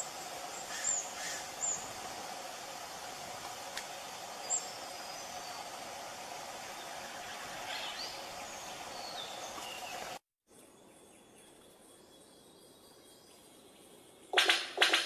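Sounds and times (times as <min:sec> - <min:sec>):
forest ambience: 0:00.0 - 0:15.0.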